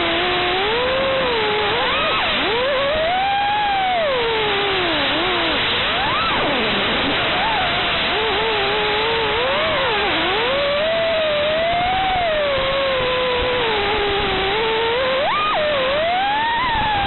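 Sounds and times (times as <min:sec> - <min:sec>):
quadcopter motors whining: 0:00.0 - 0:17.0
steady hiss: 0:00.0 - 0:17.0.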